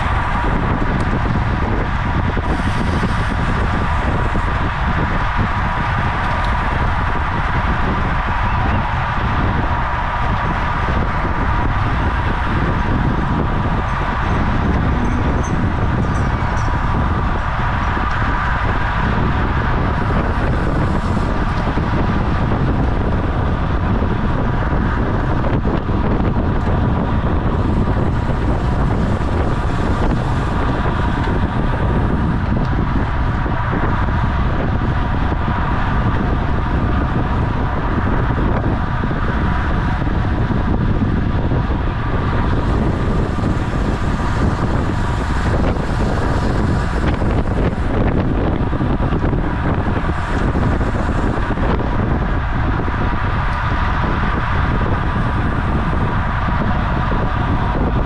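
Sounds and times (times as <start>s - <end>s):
faint steady whine: 0.0s - 58.0s
wind rushing over microphone: 0.0s - 58.0s.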